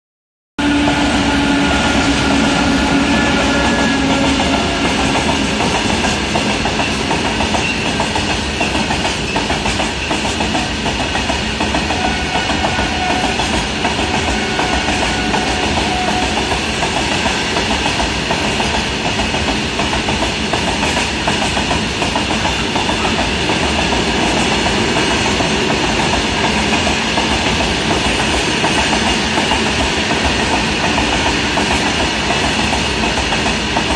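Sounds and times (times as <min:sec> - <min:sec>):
freight train rumbling past: 0:00.6 - 0:33.9
steel wheels clattering on rails: 0:00.8 - 0:33.9.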